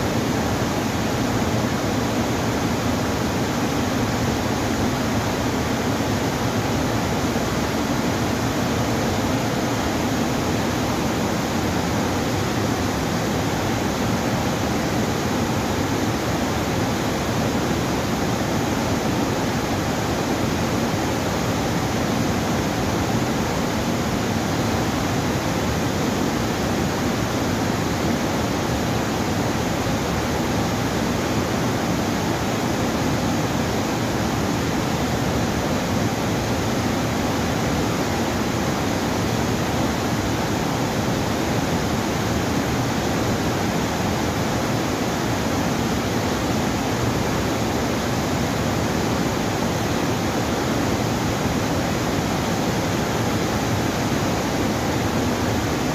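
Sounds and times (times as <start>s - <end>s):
water rushing through a dam: 0.0s - 55.9s.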